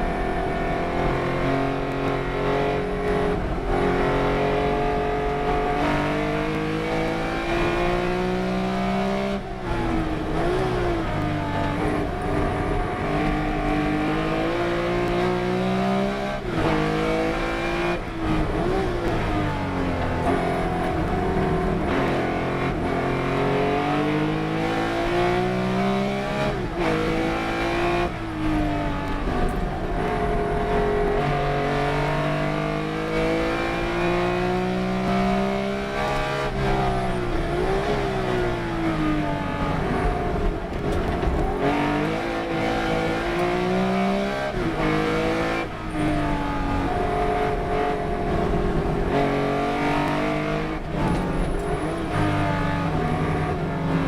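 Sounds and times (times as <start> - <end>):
race car engine shifting gears: 0.1 - 54.0.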